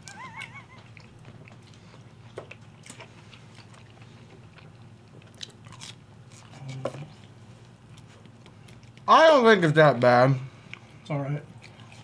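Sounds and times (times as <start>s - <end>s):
people chewing food: 0.0s - 9.3s, 9.9s - 12.0s.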